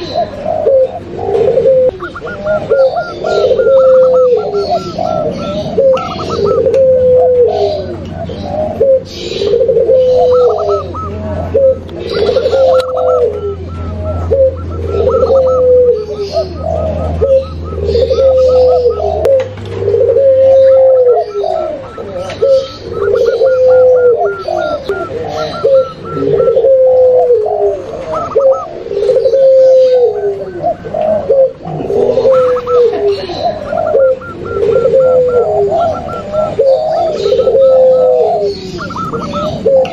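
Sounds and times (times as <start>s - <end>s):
doves cooing: 0.0s - 39.9s
trilling coo: 0.0s - 39.9s.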